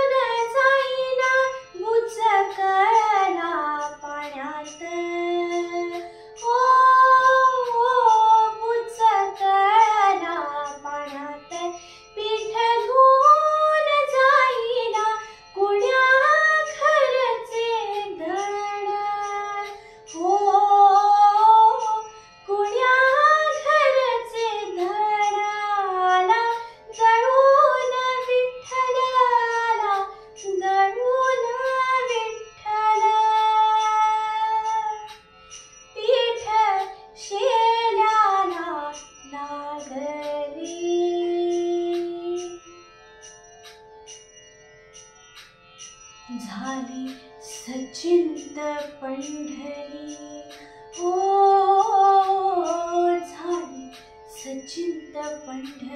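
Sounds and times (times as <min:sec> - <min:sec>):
girl singing devotional song: 0:00.0 - 0:35.2, 0:36.0 - 0:42.8, 0:46.3 - 0:55.9.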